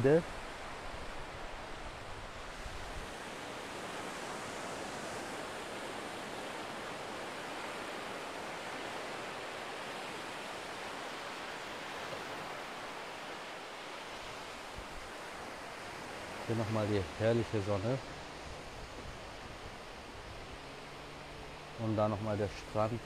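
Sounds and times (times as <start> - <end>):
surf washing on sand: 0.0 - 23.0.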